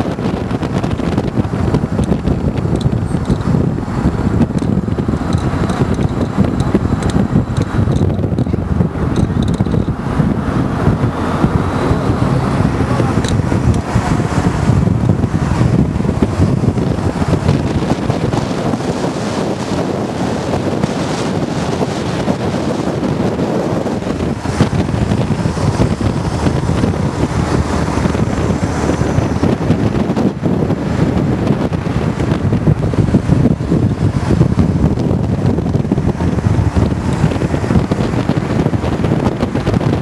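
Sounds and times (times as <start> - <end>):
car road noise: 0.0 - 40.0
wind buffeting microphone: 0.0 - 40.0.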